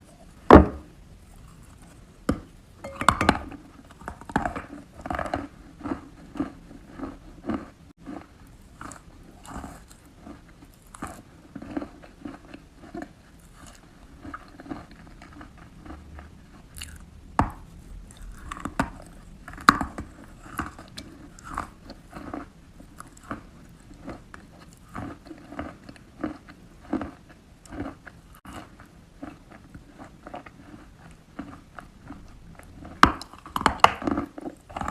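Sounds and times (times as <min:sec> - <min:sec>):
chewing crunches: 0:01.2 - 0:34.9.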